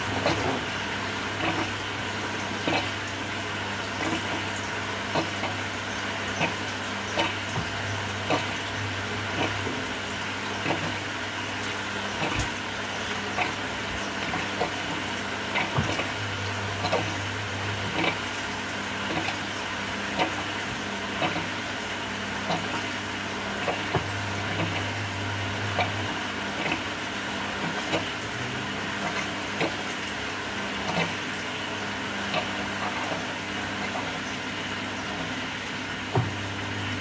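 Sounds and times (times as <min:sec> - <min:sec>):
motor low hum: 0:00.0 - 0:37.0
washing machine hum: 0:00.0 - 0:37.0.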